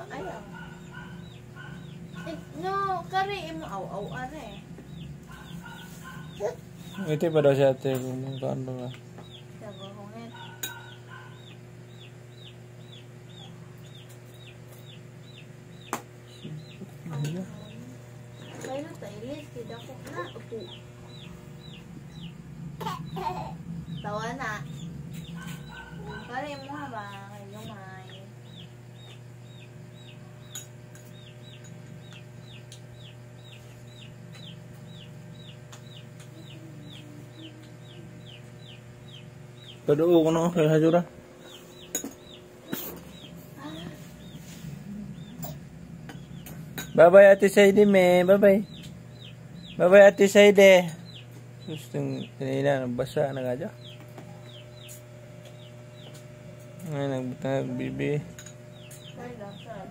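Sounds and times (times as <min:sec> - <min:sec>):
low steady hum: 0:00.0 - 0:59.9
bird peeping: 0:00.1 - 0:07.5, 0:08.2 - 0:52.4, 0:53.0 - 0:59.9.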